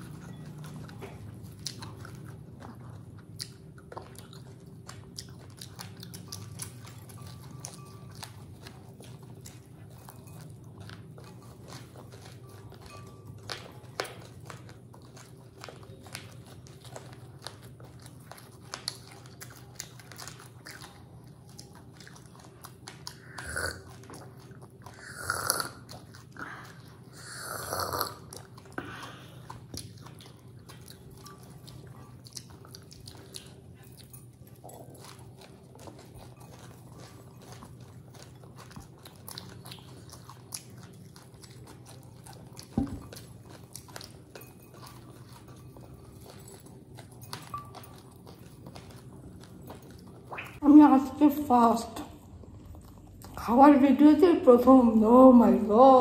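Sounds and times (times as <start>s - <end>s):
chewing crisp puffed rice: 0.0s - 56.0s.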